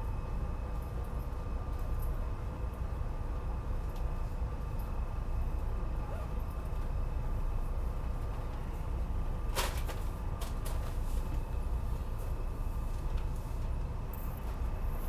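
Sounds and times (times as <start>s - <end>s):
faint steady whine: 0.0s - 15.0s
train car rumble: 0.0s - 15.0s.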